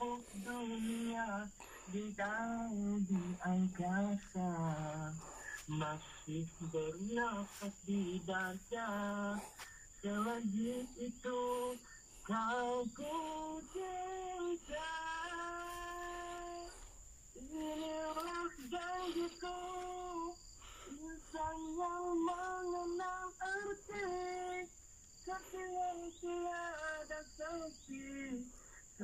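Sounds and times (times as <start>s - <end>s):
woman singing slow melody: 0.0s - 29.0s.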